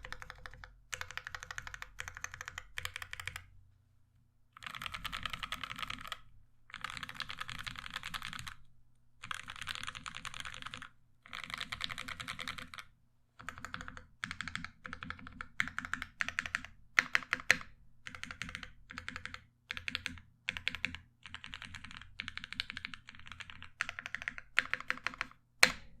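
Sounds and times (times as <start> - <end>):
typing on mechanical keyboard: 0.0 - 3.4, 4.6 - 8.6, 9.2 - 25.3.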